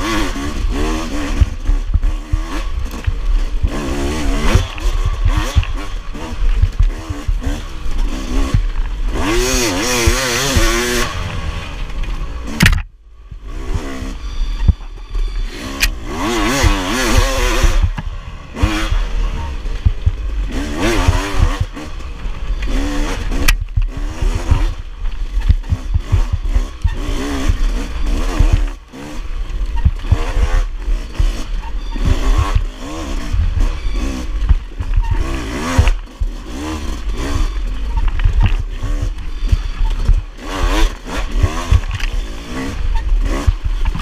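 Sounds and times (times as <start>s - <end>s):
bike knocks and rattles: 0.0s - 14.0s, 14.6s - 44.0s
motorcycle engine revving: 0.0s - 44.0s.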